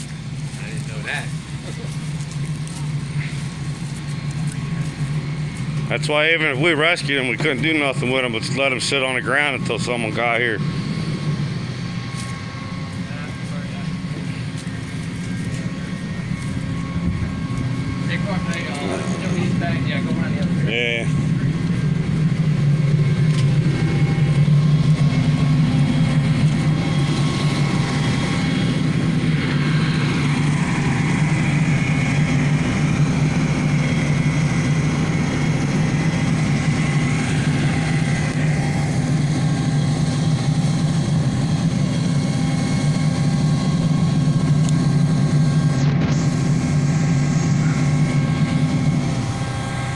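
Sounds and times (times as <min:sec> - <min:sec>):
fire truck engine running: 0:00.0 - 0:49.9.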